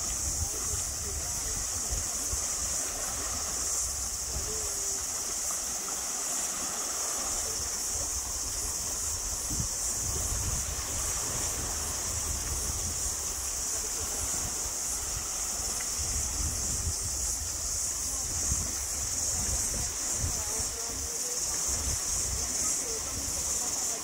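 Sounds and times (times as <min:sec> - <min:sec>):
wind rumble on microphone: 0:00.0 - 0:05.5, 0:07.3 - 0:23.9
cicadas chorus: 0:00.0 - 0:24.0.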